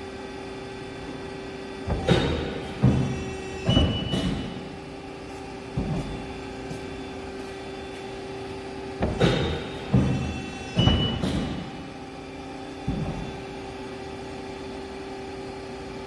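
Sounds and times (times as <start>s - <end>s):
hydraulic pump humming: 0.0s - 16.0s.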